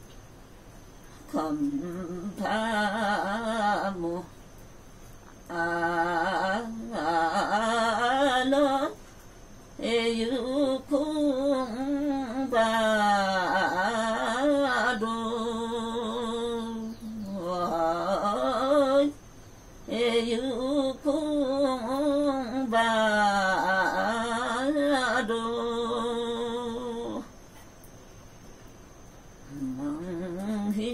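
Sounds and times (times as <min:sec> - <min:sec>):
woman singing unaccompanied: 0:01.1 - 0:04.5, 0:05.2 - 0:27.5, 0:29.4 - 0:30.9.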